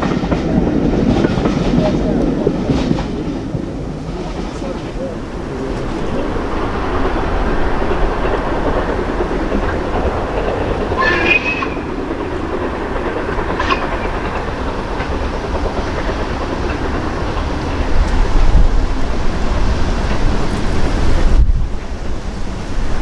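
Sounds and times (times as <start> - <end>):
train carriages rumbling on rails: 0.0 - 23.0
high-pitched squeal: 1.6 - 21.2.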